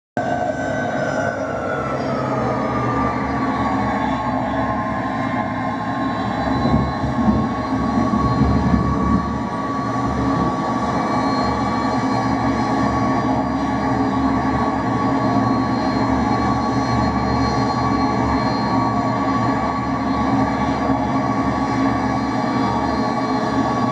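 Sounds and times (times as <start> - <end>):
jet engines roaring with whine: 0.2 - 23.9.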